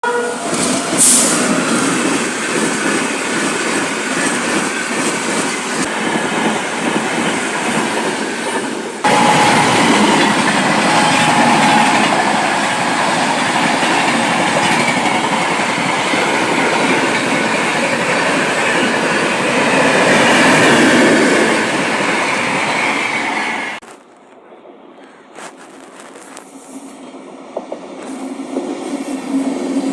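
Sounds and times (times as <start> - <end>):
train passing at speed: 0.0 - 23.8, 26.5 - 29.9.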